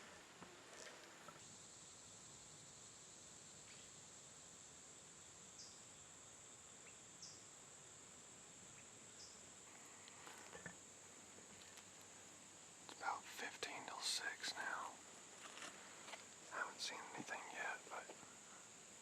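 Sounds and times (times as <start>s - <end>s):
high-pitched insect chorus: 0.8s - 19.0s.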